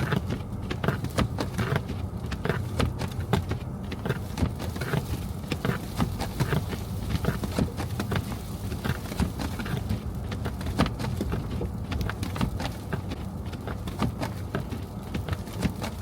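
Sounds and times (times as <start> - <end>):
car road rumble: 0.0 - 16.0
snow and ice ticking on car: 0.0 - 16.0.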